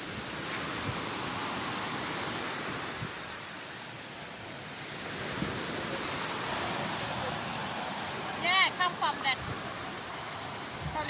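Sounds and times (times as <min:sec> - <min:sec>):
sea surf rushing: 0:00.0 - 0:11.0
wind at the shore: 0:00.0 - 0:11.0.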